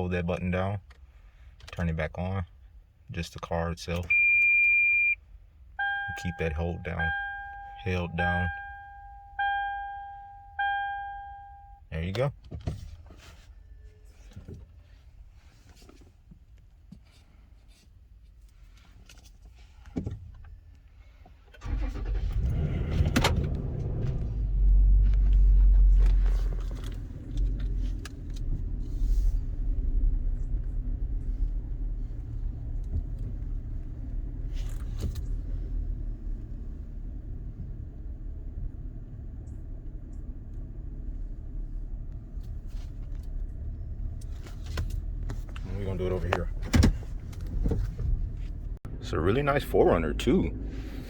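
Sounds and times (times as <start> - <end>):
car engine starting and idling: 3.8 - 15.0, 20.3 - 51.0.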